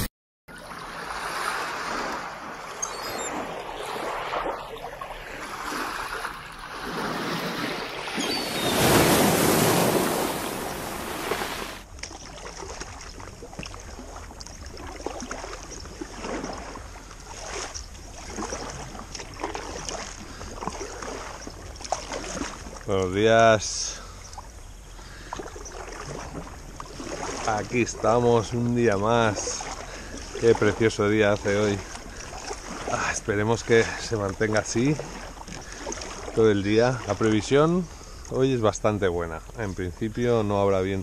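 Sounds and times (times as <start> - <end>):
sea waves breaking: 0.0 - 38.3
water lapping with splashes: 0.5 - 39.6.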